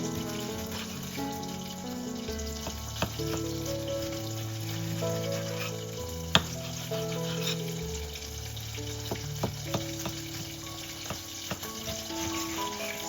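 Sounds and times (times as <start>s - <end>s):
food sizzling in a pan: 0.0s - 13.0s
soft background music: 0.0s - 13.0s.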